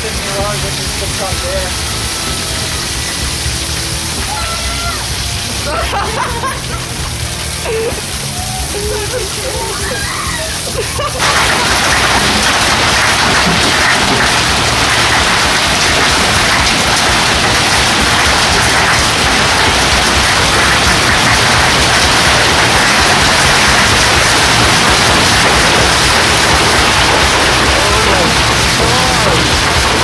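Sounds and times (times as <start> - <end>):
hail and heavy rain pelting: 0.0 - 30.0.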